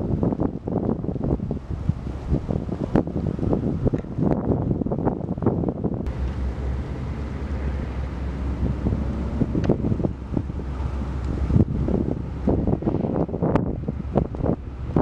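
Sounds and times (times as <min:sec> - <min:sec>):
boat engine drone: 0:00.0 - 0:15.0
wind buffeting microphone: 0:00.0 - 0:15.0.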